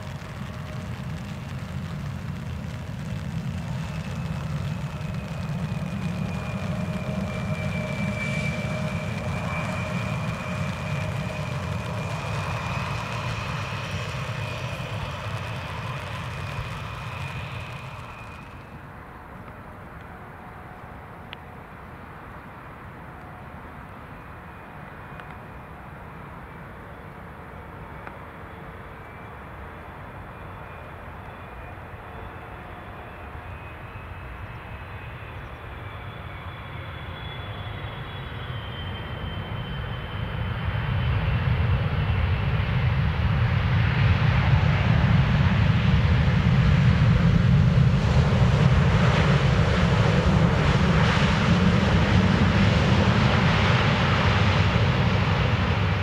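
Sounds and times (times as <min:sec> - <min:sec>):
jet engines on approach: 0:00.0 - 0:56.0.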